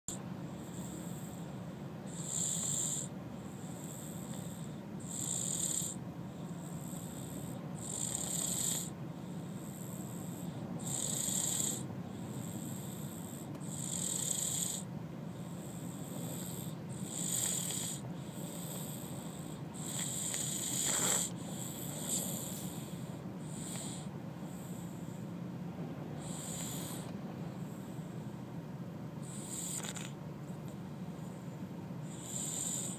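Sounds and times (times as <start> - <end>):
toddler snoring: 0.5 - 25.0, 26.2 - 27.1, 29.2 - 30.2, 32.0 - 32.9.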